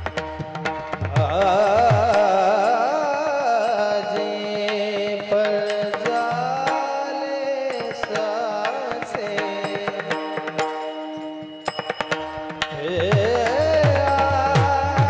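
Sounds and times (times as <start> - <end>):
sharp percussion strikes: 0.0 - 15.0
person singing with vibrato: 1.1 - 11.8, 12.4 - 15.0.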